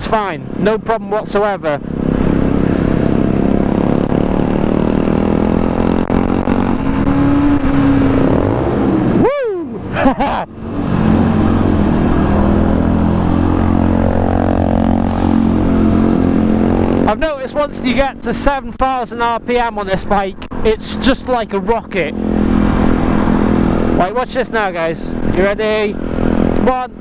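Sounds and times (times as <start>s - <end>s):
motorcycle engine running: 0.0s - 9.2s, 10.5s - 27.0s.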